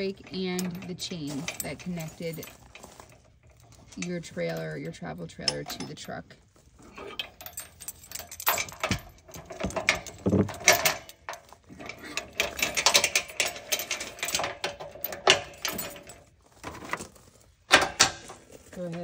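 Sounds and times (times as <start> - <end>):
metal chains clinking and rattling: 0.0 - 19.0.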